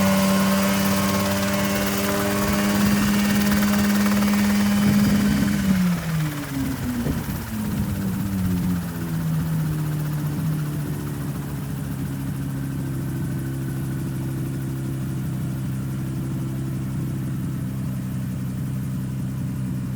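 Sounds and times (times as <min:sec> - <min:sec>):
helicopter engine throttling and idling: 0:00.0 - 0:19.9.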